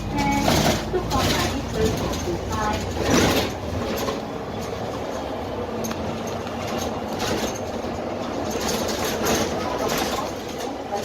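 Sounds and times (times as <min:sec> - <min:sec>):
bus diesel engine: 0:00.0 - 0:11.0
panels rattling and clicking: 0:00.0 - 0:11.0
road noise: 0:00.0 - 0:11.0.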